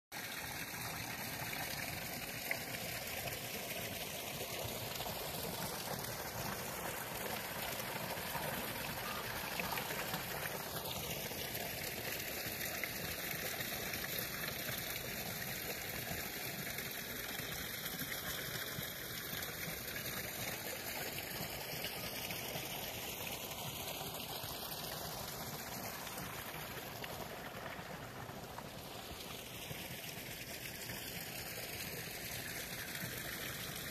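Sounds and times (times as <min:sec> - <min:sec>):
water fountain splashing: 0:00.2 - 0:33.9.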